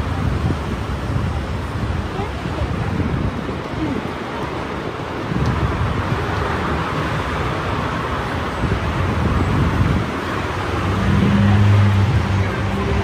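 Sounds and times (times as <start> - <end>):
road traffic noise: 0.0 - 13.0
wind buffeting microphone: 0.0 - 13.0.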